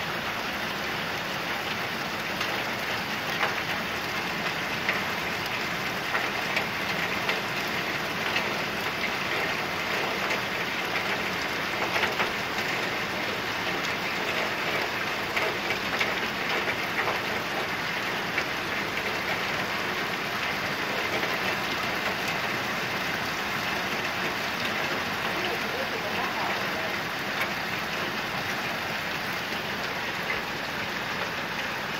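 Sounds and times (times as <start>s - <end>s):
raindrops ticking close by: 0.0s - 31.9s
steady rain falling: 0.0s - 31.9s.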